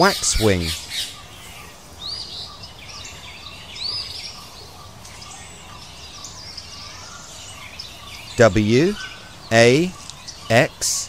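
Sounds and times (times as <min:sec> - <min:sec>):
birds chirping: 0:00.0 - 0:11.0
faint high bird calls: 0:00.0 - 0:11.0.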